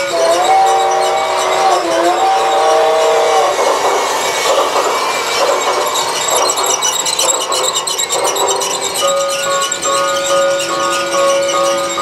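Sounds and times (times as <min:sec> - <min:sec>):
held musical tones: 0:00.0 - 0:12.0
toy train rattling on track: 0:00.0 - 0:12.0.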